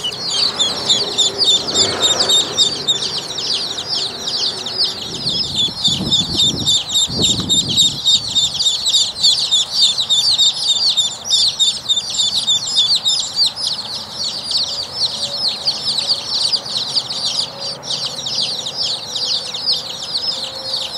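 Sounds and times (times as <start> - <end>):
ducklings peeping: 0.0 - 20.9.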